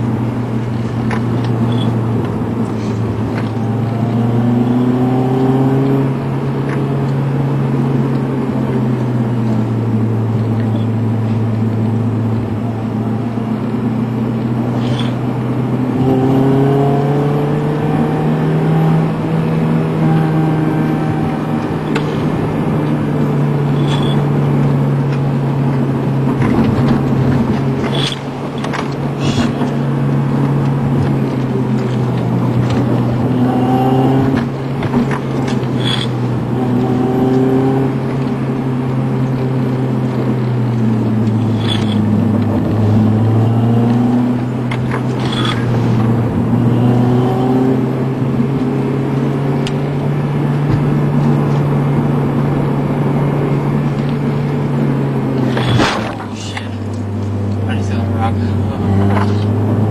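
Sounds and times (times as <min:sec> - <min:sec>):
car engine droning: 0:00.0 - 0:59.9
tyre and road noise: 0:00.0 - 0:59.9.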